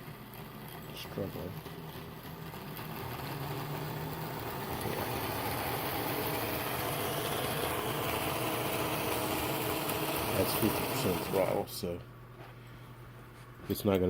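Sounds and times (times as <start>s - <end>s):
small electric motor whirring: 0.0s - 11.6s.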